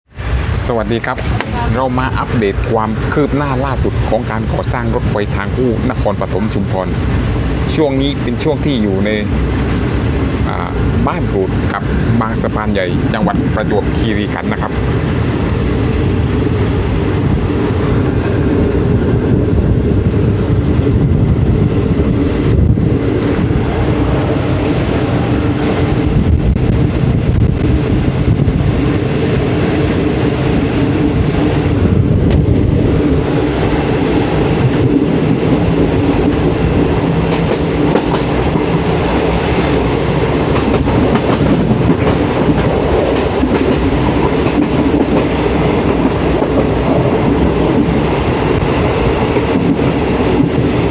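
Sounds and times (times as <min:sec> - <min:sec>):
train rumbling on track: 0:00.0 - 0:50.9.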